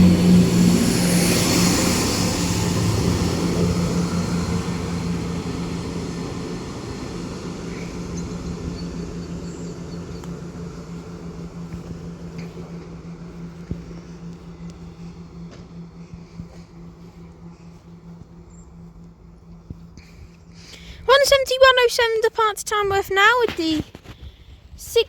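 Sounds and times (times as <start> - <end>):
diesel train engine drone: 0.0 - 25.0.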